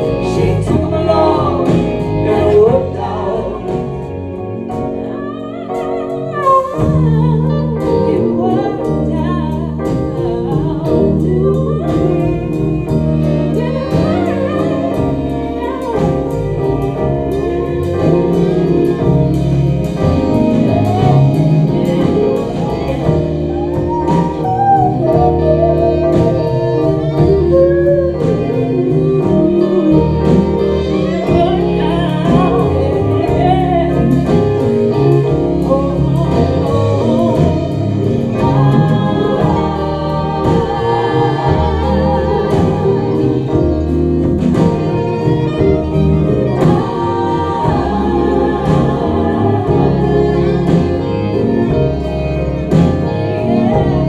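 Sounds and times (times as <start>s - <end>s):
steady drumbeat: 0.0s - 5.2s, 5.8s - 54.0s
bass: 0.0s - 54.0s
saxophone: 0.0s - 54.0s
women singing: 0.0s - 54.0s.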